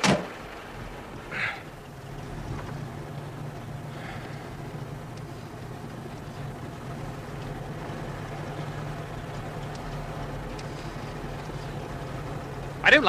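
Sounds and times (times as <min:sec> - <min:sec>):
car engine drone inside cabin: 0:00.0 - 0:13.0.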